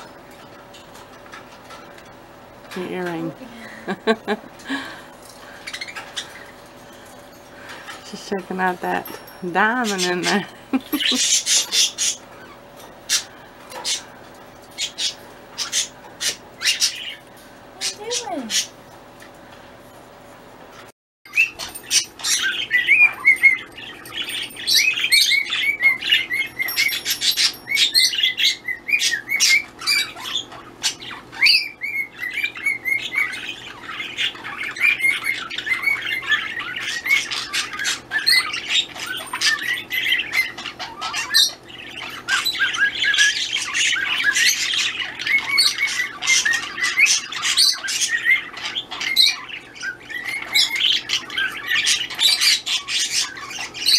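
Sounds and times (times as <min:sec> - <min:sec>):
parrots chirping and squawking: 0:00.0 - 0:53.9.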